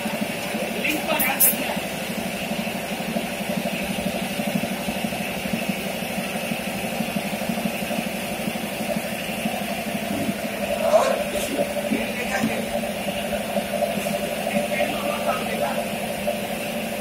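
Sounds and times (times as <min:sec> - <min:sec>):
filling machine humming: 0:00.0 - 0:17.0.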